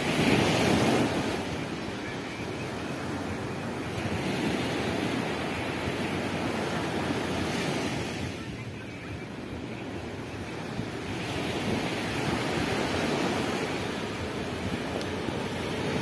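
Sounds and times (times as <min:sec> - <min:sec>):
surf breaking on a beach: 0:00.0 - 0:16.0
wind buffeting the microphone: 0:00.0 - 0:16.0.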